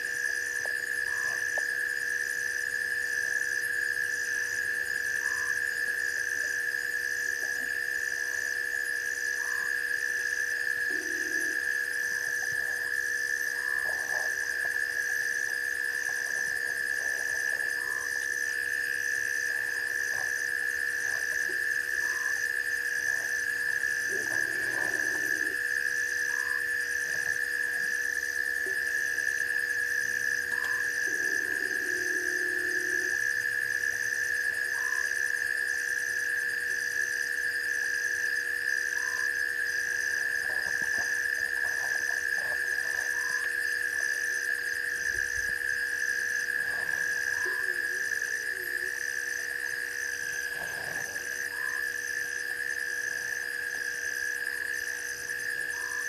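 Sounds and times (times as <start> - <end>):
frogs croaking: 0.0 - 56.0
high-pitched insect drone: 0.0 - 56.0.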